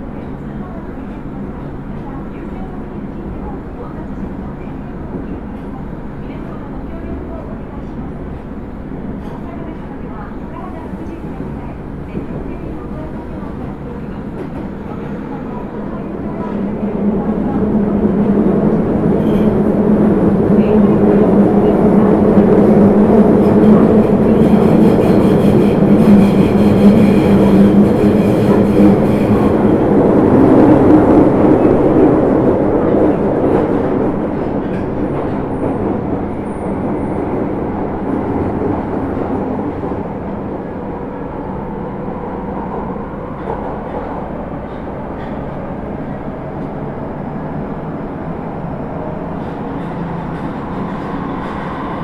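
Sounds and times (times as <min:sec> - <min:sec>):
subway train rumble: 0:00.0 - 0:52.0.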